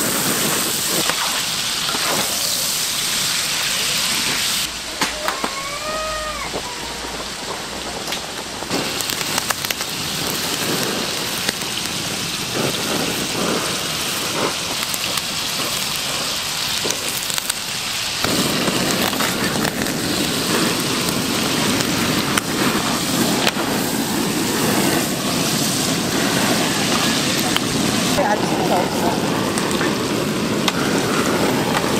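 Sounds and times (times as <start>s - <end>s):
crackles and pops: 0.0s - 31.9s
meat sizzling on a grill: 0.0s - 31.9s.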